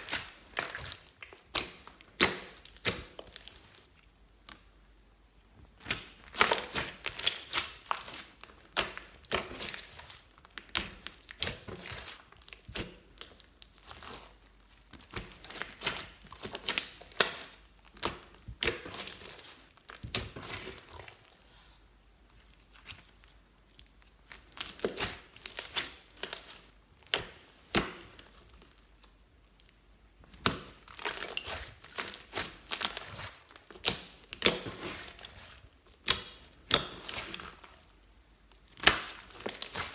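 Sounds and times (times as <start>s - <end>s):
slime crackling and popping: 0.0s - 4.6s, 5.8s - 21.2s, 23.7s - 29.7s, 30.3s - 39.9s.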